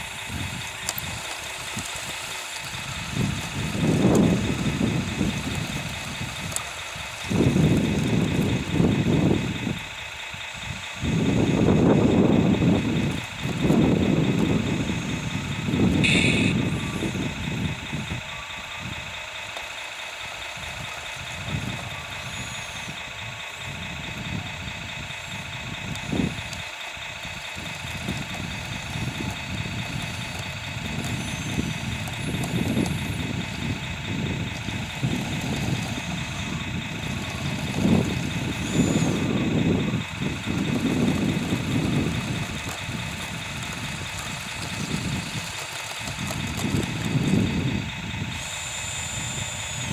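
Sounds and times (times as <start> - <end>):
high motor whine: 0.0 - 49.9
motor and gear noise: 0.0 - 49.9.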